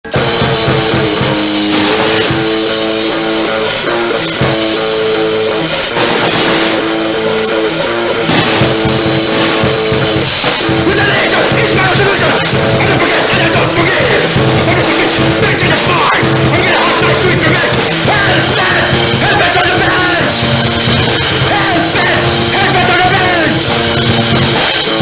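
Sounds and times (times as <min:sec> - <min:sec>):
distorted electric guitar: 0:00.0 - 0:25.0
drum kit: 0:00.0 - 0:25.0.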